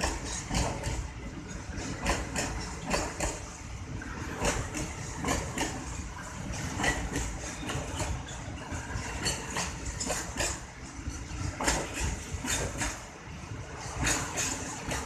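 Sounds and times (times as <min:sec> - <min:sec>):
train wheels clacking: 0:00.0 - 0:15.0.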